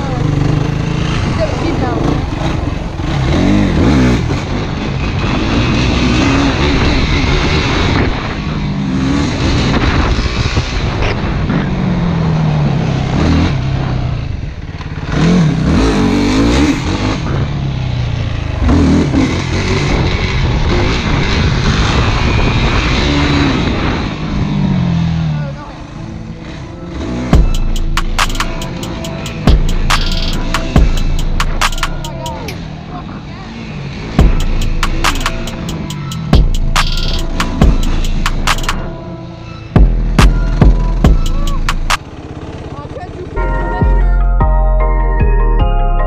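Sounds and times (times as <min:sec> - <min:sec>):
quad engine revving: 0:00.0 - 0:25.6, 0:26.4 - 0:38.9, 0:39.8 - 0:43.4.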